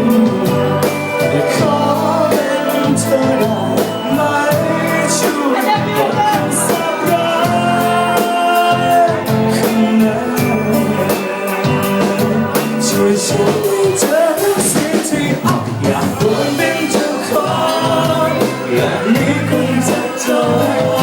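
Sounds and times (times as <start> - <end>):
pop song with drum beat: 0.0 - 21.0.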